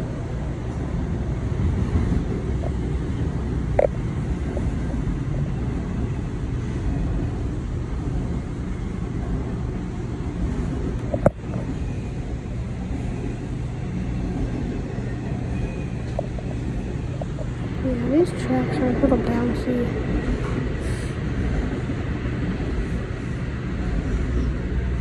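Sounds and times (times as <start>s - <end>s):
freight cars rumbling on rails: 0.0s - 25.0s.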